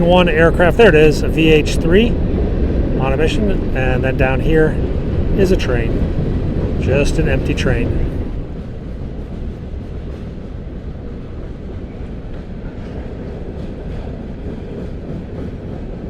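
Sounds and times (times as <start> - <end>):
train rumbling on tracks: 0.0 - 16.0.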